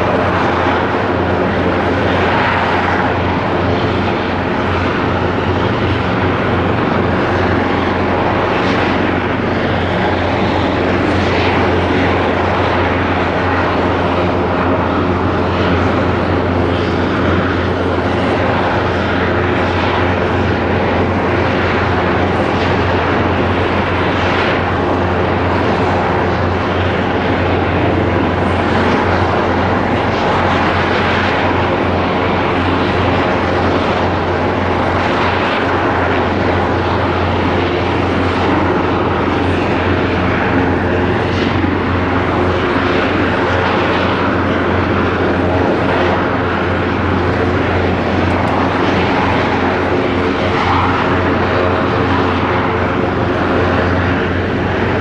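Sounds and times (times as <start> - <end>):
helicopter engines and rotor: 0.0 - 55.0.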